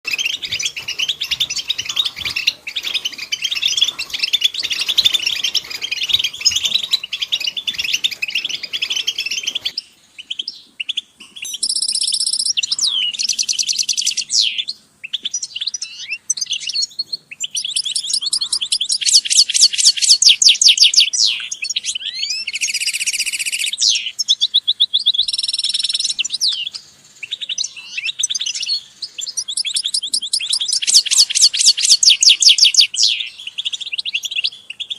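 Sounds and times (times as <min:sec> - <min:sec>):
bird fast trills: 0:00.0 - 0:34.9
finches twittering chorus: 0:00.1 - 0:10.9, 0:11.5 - 0:34.9.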